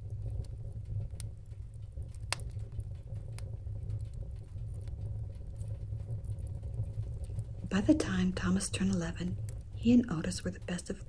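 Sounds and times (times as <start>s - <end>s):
fire crackling with sharp pops: 0.0s - 11.0s
steady low rumble: 0.0s - 11.0s.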